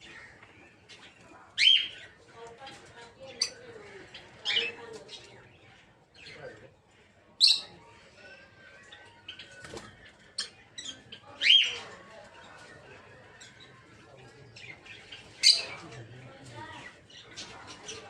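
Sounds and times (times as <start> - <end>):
lovebirds chirping: 0.0 - 18.0.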